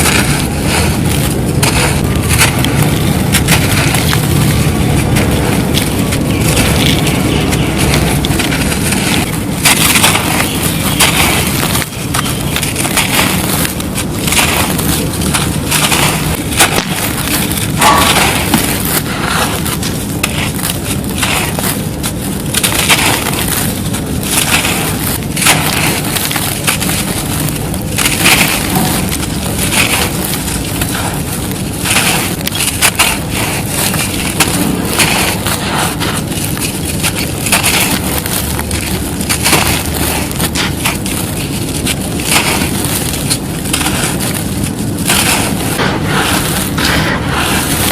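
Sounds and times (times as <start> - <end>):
concrete crunching: 0.0 - 47.9.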